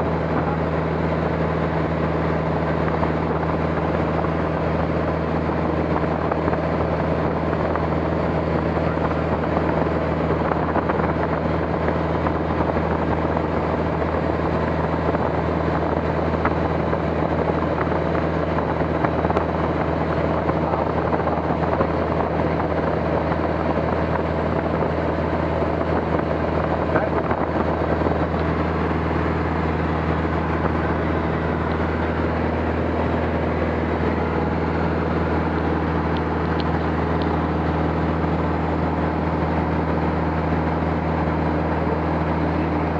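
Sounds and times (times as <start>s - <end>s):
aircraft engine droning: 0.0s - 42.9s.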